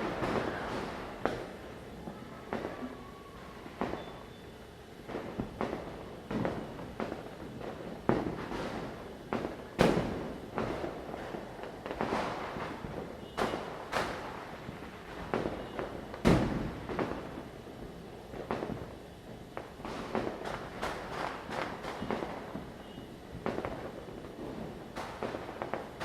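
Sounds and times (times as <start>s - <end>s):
firecrackers banging: 0.0s - 4.4s, 5.0s - 26.0s.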